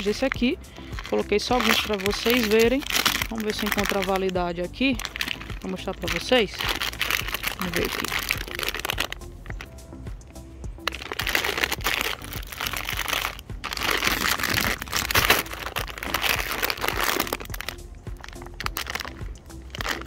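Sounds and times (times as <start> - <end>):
plastic snack bag crinkling: 0.0 - 9.8, 10.8 - 20.0
quiet background music: 0.0 - 20.0.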